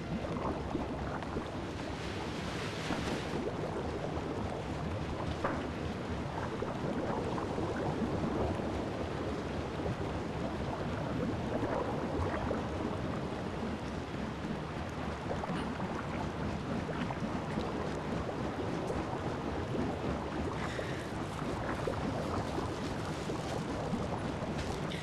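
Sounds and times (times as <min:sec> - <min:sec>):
washing machines churning water: 0:00.0 - 0:25.0.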